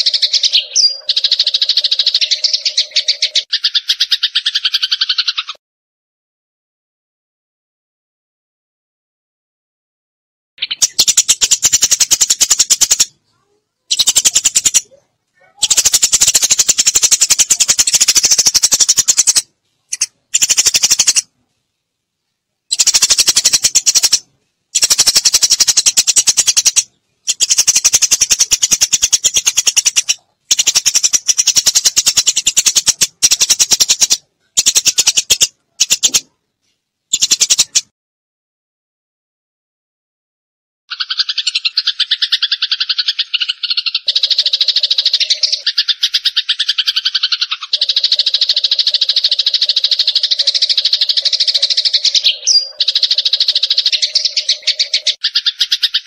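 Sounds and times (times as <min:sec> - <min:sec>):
sparrows chirping: 0:00.0 - 0:05.6, 0:10.6 - 0:21.3, 0:22.7 - 0:36.4, 0:37.1 - 0:37.9, 0:40.9 - 0:56.0.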